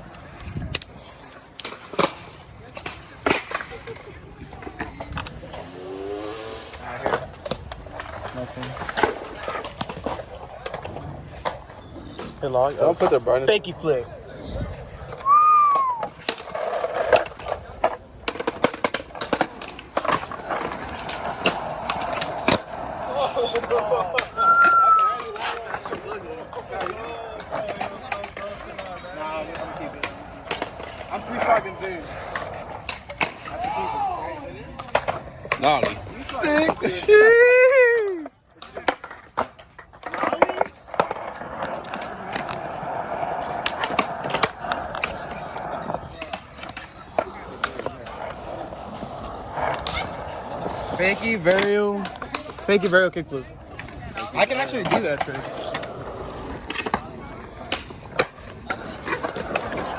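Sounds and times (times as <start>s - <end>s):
skateboard clacks and pops: 0.0s - 59.9s
skateboard wheels rolling on pavement: 0.0s - 59.9s.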